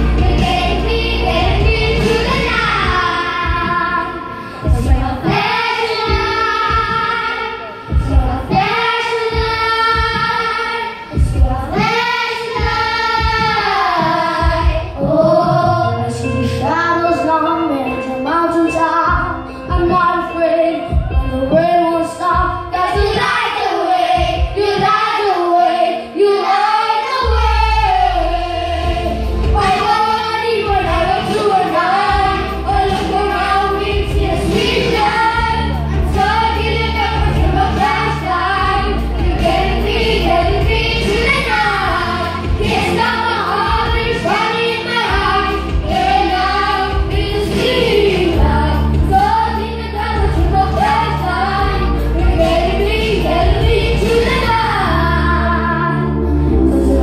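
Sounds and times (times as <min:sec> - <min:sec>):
child singing: 0:00.0 - 0:56.1.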